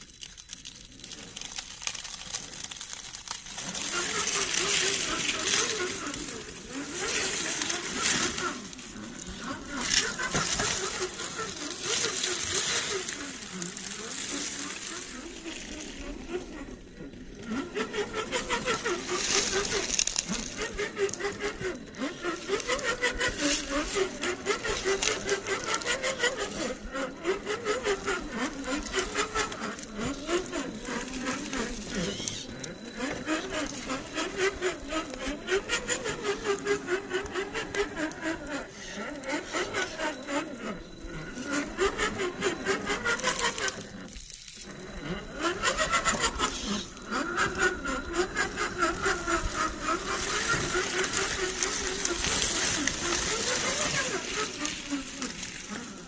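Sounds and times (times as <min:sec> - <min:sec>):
rc car electric motor whining: 0:00.0 - 0:56.0.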